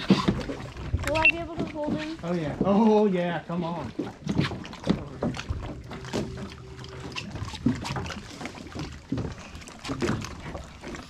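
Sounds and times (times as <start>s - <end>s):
water movement: 0.0s - 11.0s.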